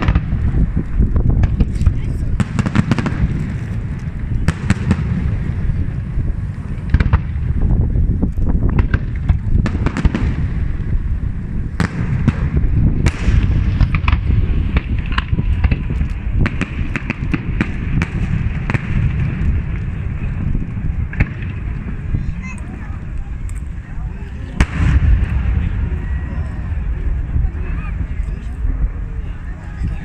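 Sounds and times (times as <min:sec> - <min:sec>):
fireworks cracks and pops: 0:00.0 - 0:30.0
fireworks rumbling: 0:00.0 - 0:30.0.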